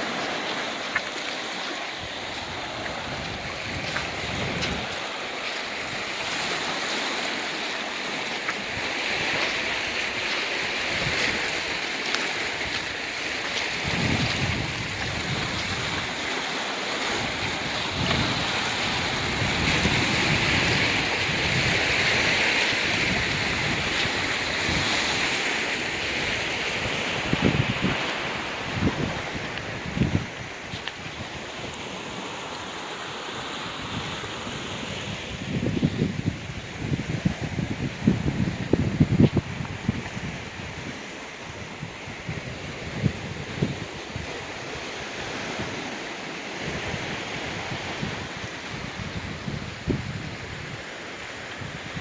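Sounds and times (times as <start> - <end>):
surf on rocky shore: 0.0 - 52.0
wind gusting against microphone: 0.0 - 52.0.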